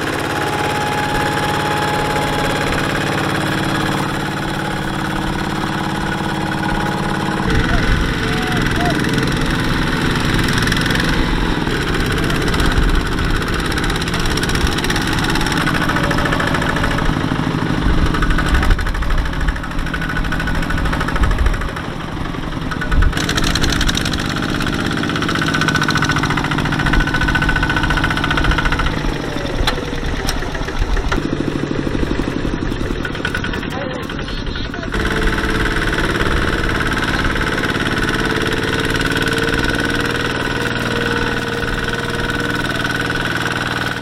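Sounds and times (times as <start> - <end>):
diesel tractor engines under load: 0.0 - 44.0
wheels churning through mud: 0.0 - 44.0.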